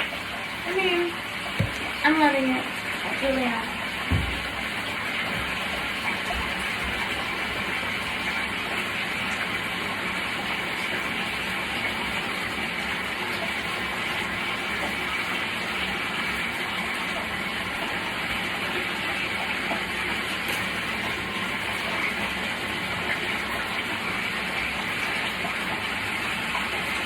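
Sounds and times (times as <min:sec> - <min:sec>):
washing machine spin motor hum: 0:00.0 - 0:27.0.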